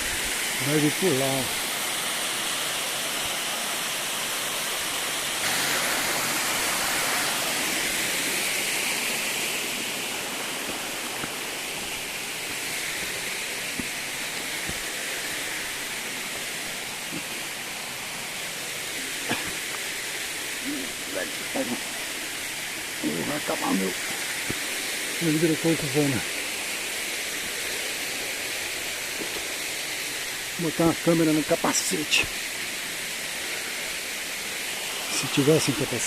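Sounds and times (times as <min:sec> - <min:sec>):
waterfall onto rock: 0:00.0 - 0:36.0.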